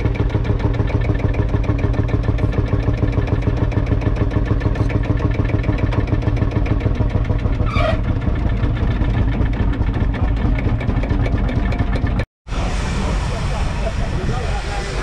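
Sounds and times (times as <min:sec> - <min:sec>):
single-cylinder diesel engine running: 0:00.0 - 0:15.0.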